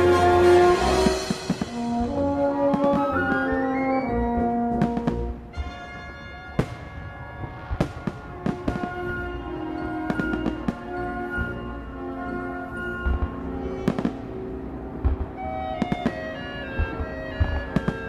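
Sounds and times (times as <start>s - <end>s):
fireworks bursting: 0.0s - 18.0s
loud orchestral music: 0.0s - 18.0s.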